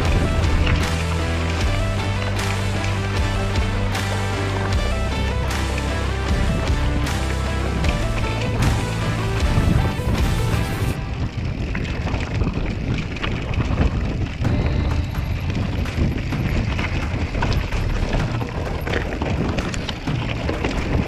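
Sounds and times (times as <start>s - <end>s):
music: 0.0s - 11.6s, 14.4s - 21.0s
mountain bike rattling over rough trail: 0.0s - 21.0s
wind buffeting microphone: 0.0s - 21.0s.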